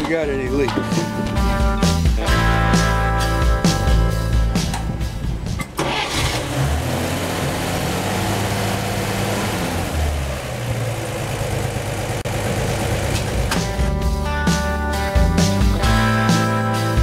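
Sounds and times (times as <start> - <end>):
truck engine starting and idling: 0.1 - 15.7.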